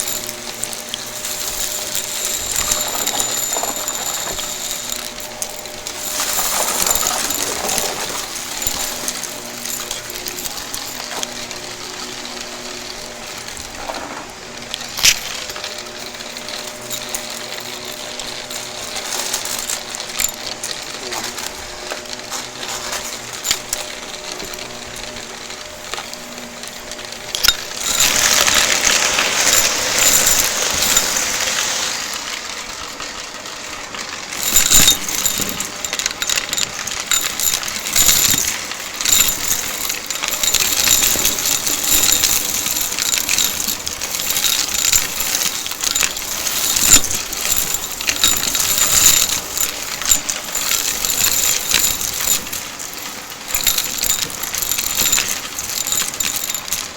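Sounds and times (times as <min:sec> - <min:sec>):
vacuum cleaner sucking up debris: 0:00.0 - 0:56.9.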